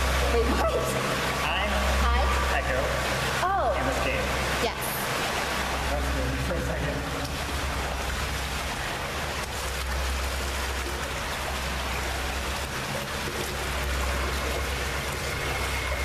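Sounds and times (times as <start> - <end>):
water rushing through a tunnel: 0.0 - 16.0.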